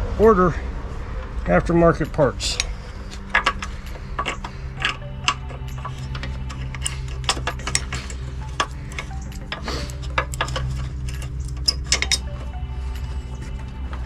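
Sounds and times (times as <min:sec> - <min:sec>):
steady low hum: 0:00.0 - 0:14.0
cable fittings clicking and rattling: 0:02.0 - 0:14.0.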